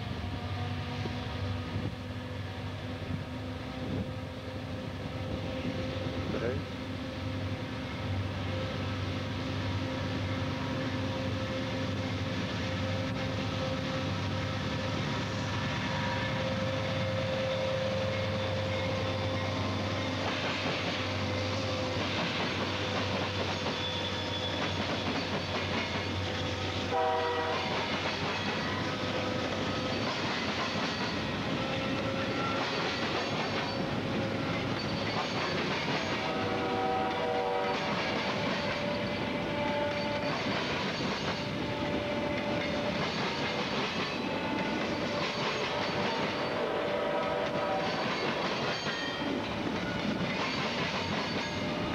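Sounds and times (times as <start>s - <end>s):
diesel locomotive droning whine: 0.0s - 51.9s.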